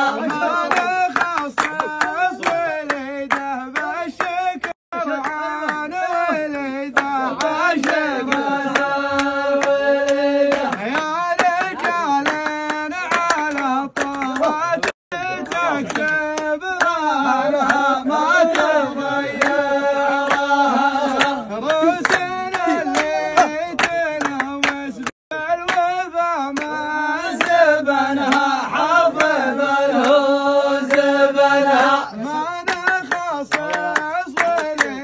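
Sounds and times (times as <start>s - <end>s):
rhythmic hand clapping: 0.0s - 35.0s.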